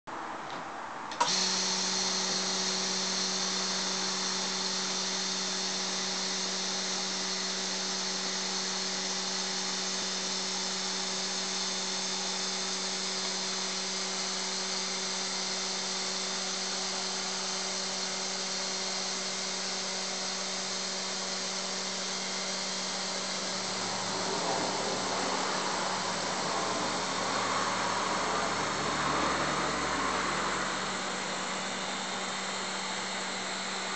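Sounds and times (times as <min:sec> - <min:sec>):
vacuum pump humming and hissing: 0:01.1 - 0:33.9.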